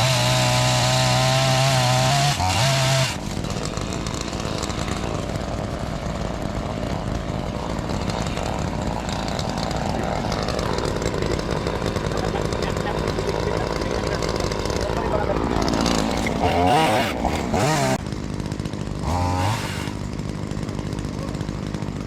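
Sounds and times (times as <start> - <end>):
chainsaw engine: 0.0 - 22.0.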